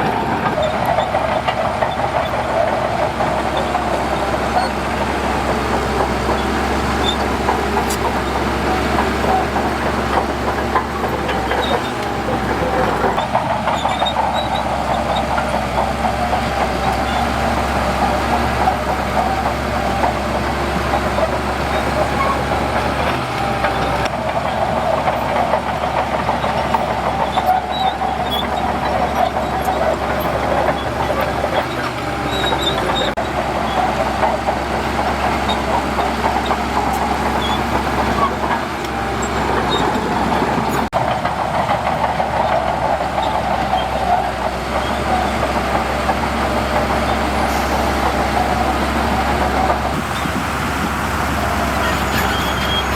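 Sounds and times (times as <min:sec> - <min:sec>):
heavy machinery diesel engine: 0:00.0 - 0:52.9.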